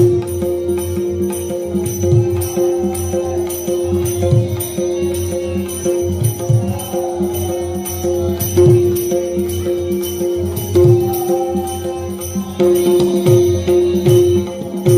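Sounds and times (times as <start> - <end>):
jingling metal percussion: 0.0 - 14.9.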